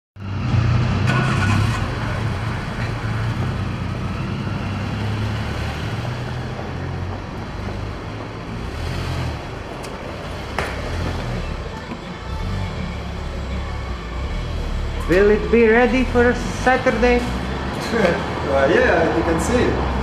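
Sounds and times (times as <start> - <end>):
street traffic rumble: 0.2 - 20.0.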